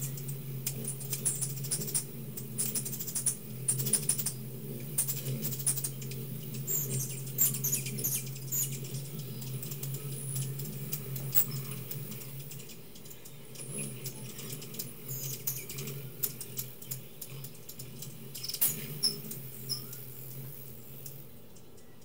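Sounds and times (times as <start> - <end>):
hummingbirds chipping and squeaking: 0.0 - 22.0
steady low hum: 0.0 - 22.0.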